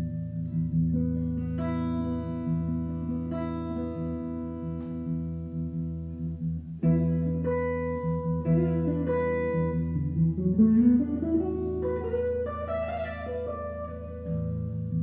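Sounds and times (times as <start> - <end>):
solo jazz guitar: 0.0 - 15.0.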